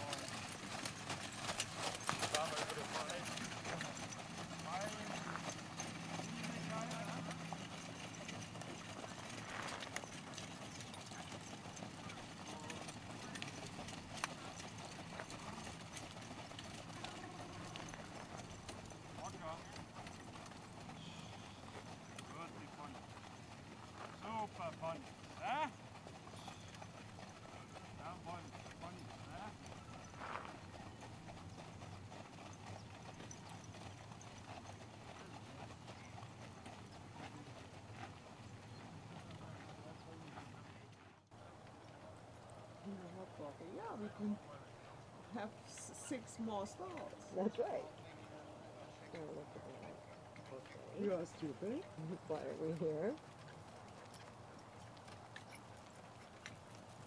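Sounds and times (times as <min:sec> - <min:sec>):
hoofbeats on sand: 0:00.0 - 0:57.0
hooves clopping on arena surface: 0:00.0 - 0:57.0.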